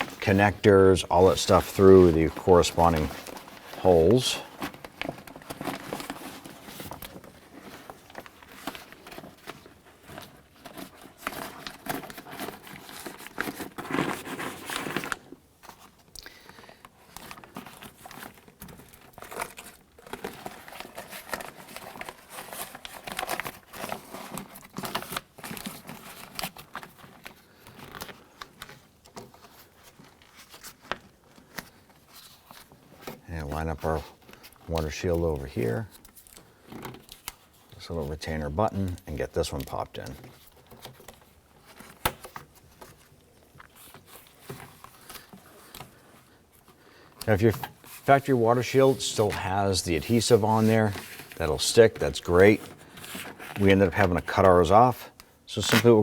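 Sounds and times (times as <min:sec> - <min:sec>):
plastic sheet crinkling: 0:00.0 - 0:56.0.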